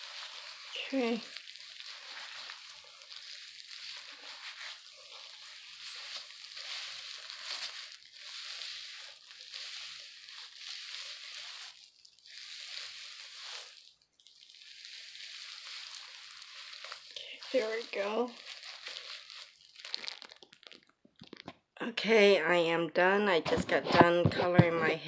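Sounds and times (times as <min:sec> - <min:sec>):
wet hair rubbing: 0:00.0 - 0:21.4.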